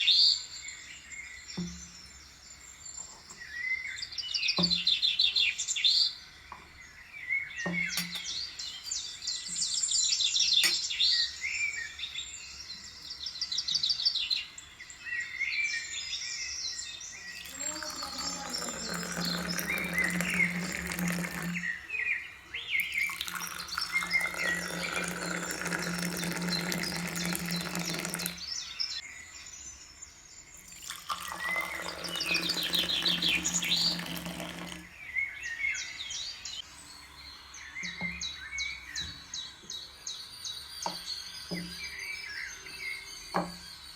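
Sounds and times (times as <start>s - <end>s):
small birds chirping and trilling: 0.0s - 43.9s.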